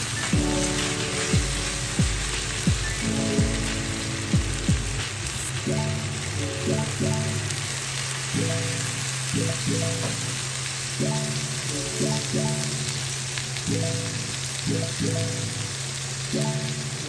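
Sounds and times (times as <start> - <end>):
background music: 0.0 - 7.6, 8.4 - 10.4, 11.0 - 13.0, 13.6 - 17.0
meat sizzling in a frying pan: 0.0 - 17.0.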